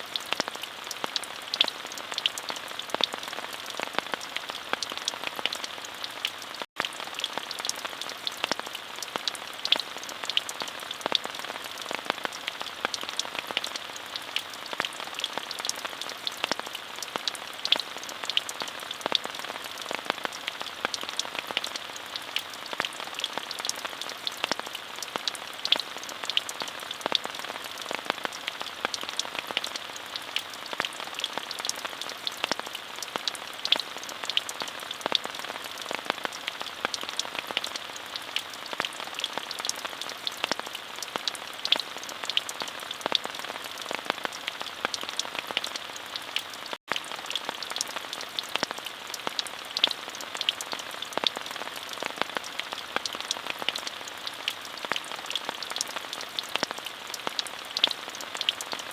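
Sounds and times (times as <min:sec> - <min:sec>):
raindrops ticking close by: 0:00.0 - 0:58.9
steady rain hiss: 0:00.0 - 0:58.9.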